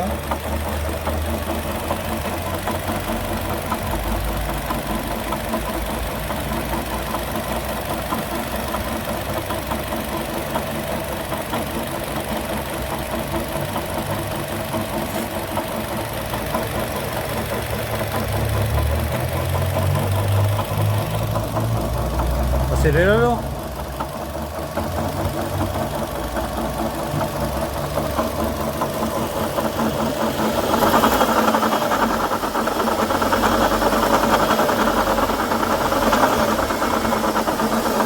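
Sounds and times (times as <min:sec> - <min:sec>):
car engine idling: 0:00.0 - 0:38.0
rapid engine knocking: 0:00.0 - 0:38.0.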